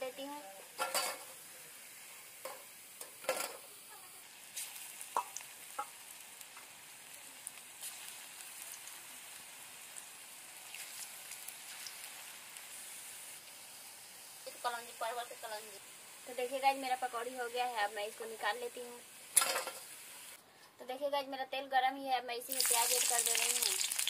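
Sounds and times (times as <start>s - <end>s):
deep-frying sizzle: 0.0s - 20.4s, 22.4s - 24.0s.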